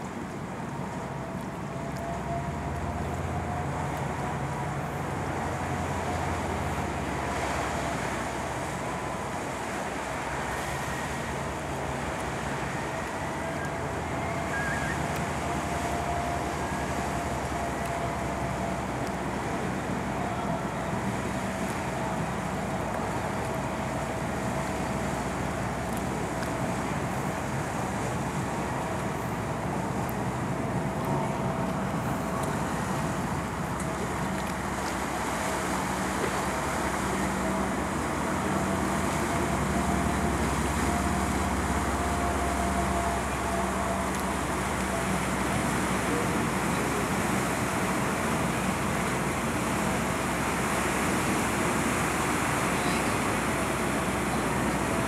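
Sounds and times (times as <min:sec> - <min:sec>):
ferry engine drone: 0:00.0 - 0:55.0
thin steady whine: 0:00.0 - 0:55.0
water churning: 0:00.0 - 0:55.0.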